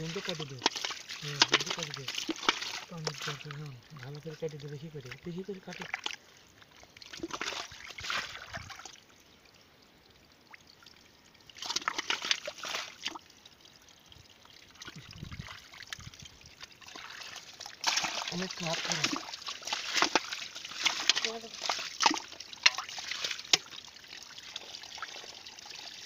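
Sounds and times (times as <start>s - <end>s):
pond water trickling and splashing: 0.0s - 26.0s.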